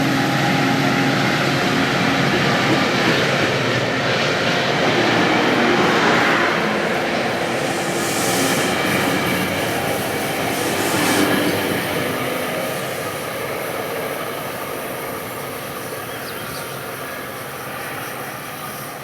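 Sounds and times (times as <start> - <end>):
diesel locomotive moving: 0.0 - 19.0
train wheels squealing on rails: 0.0 - 19.0.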